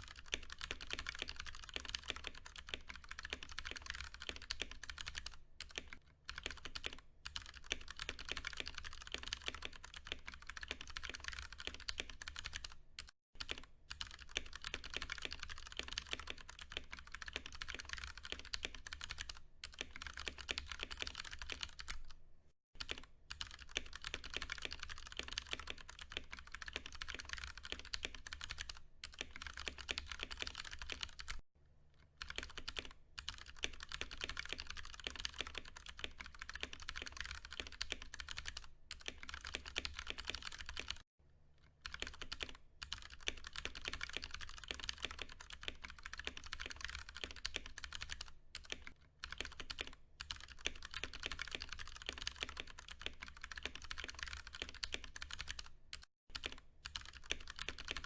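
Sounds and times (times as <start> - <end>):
fast mechanical keyboard typing: 0.0 - 22.2, 22.8 - 31.4, 32.2 - 41.0, 41.8 - 58.0.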